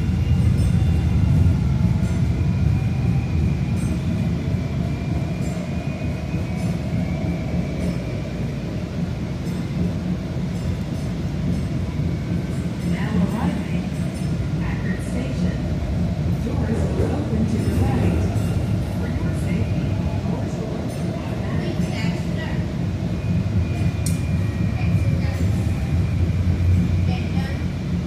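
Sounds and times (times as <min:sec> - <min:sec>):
faint whining tones: 0:00.0 - 0:28.0.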